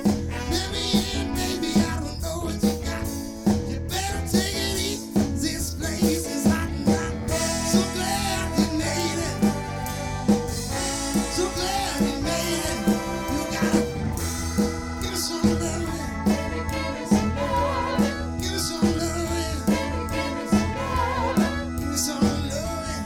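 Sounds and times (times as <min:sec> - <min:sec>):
live band music: 0:00.0 - 0:23.0
steady drum beat: 0:00.0 - 0:23.0.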